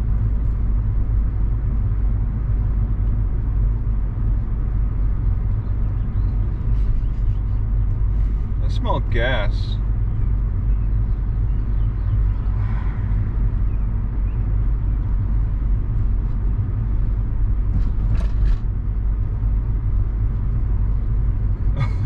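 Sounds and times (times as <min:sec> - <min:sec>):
car engine rumble: 0:00.0 - 0:22.0
road noise inside car: 0:00.0 - 0:22.0.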